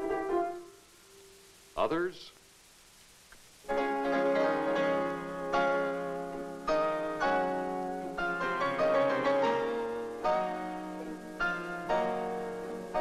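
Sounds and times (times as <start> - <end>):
piano chords: 0.0 - 1.3, 3.7 - 13.0.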